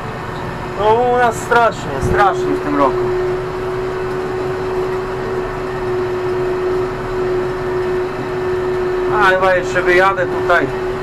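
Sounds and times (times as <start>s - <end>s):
constant engine whine: 0.0s - 11.0s
tractor diesel engine droning: 0.0s - 11.0s.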